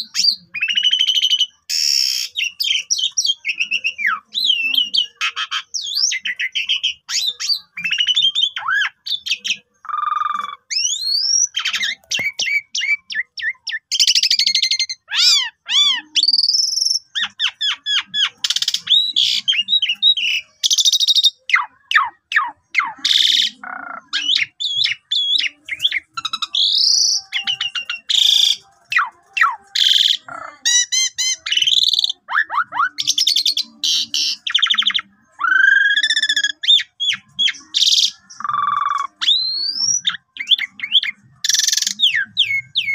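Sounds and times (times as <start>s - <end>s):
starling singing: 0.0s - 42.9s.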